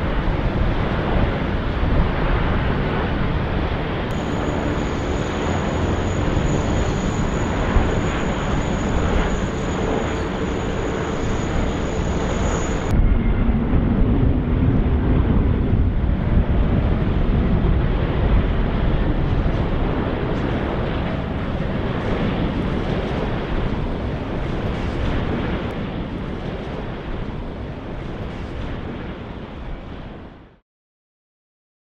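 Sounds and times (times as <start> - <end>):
deep rumble of landing airliner: 0.0 - 30.6
jet engine rush with high whine: 0.0 - 30.6.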